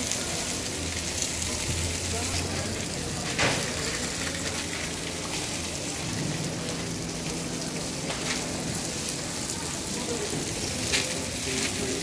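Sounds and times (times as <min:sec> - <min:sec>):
meat sizzling: 0:00.0 - 0:12.0.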